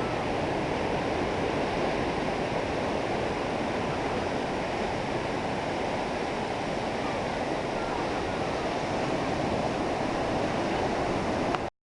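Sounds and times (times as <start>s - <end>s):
ocean surf rushing: 0.0s - 11.7s.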